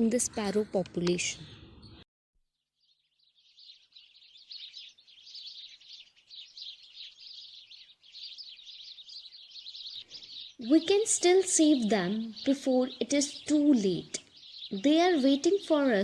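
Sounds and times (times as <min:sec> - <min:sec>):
sparrows chirping: 0:00.0 - 0:02.0, 0:02.7 - 0:16.0.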